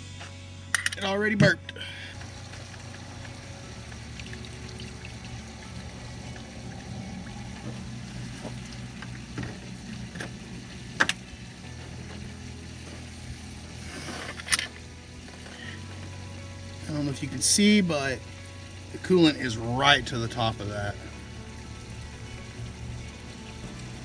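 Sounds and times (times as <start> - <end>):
liquid running and gurgling: 1.4 - 24.0.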